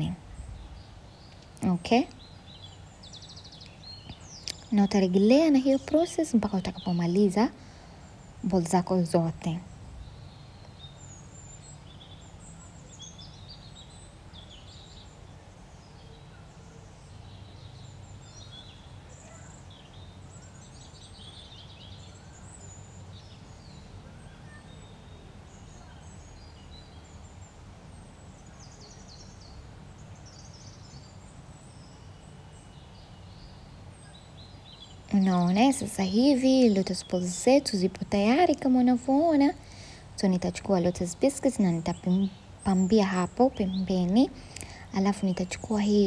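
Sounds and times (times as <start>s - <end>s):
birds chirping: 0.0s - 46.0s
low steady hum: 0.0s - 46.0s.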